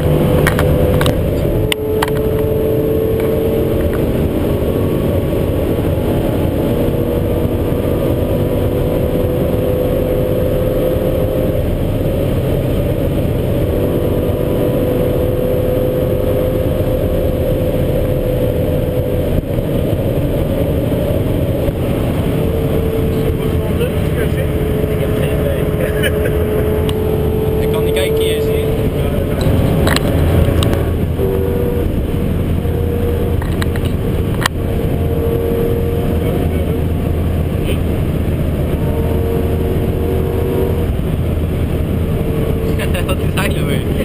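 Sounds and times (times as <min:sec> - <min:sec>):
car engine running hard: 0:00.0 - 0:44.0
wind and road noise: 0:00.0 - 0:44.0.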